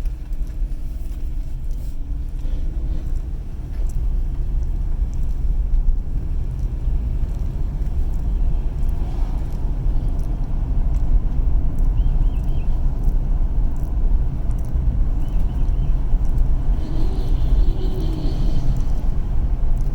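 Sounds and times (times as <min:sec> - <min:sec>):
car driving low rumble: 0:00.0 - 0:19.9.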